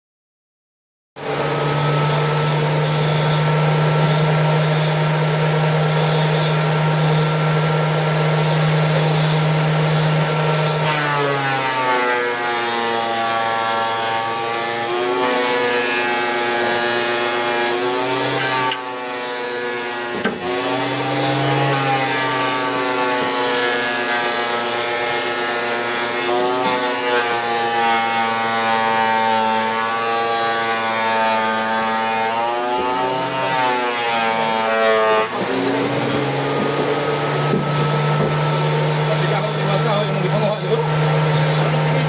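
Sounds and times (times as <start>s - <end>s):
power tool cutting wood: 1.2s - 42.0s.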